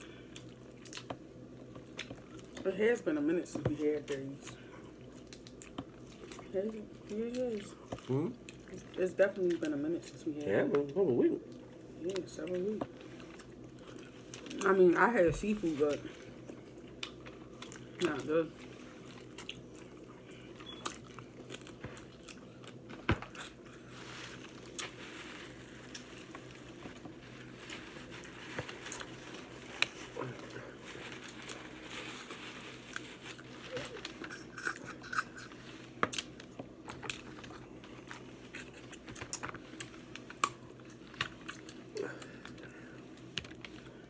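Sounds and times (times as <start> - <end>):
faint steady hum: 0.0 - 44.0
chewing: 0.3 - 2.6, 4.4 - 14.8, 15.9 - 43.9.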